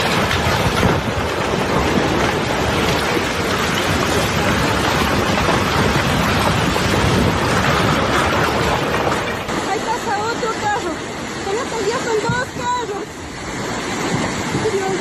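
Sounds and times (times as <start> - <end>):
loud steady rushing noise: 0.0 - 15.0.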